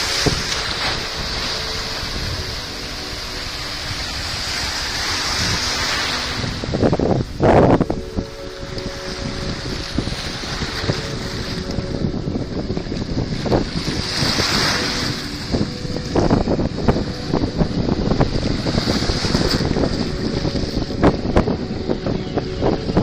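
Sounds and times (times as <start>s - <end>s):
sea waves splashing: 0.0s - 23.0s
wind rumbling on microphone: 0.0s - 23.0s.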